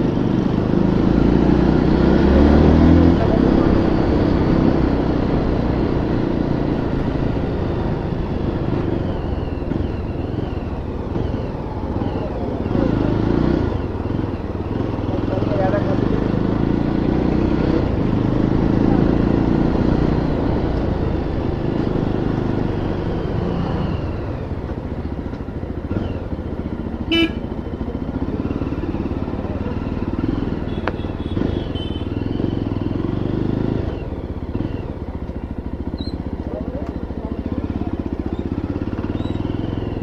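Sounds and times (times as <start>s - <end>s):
motorcycle engine at low speed: 0.0s - 40.0s
street traffic: 0.0s - 40.0s.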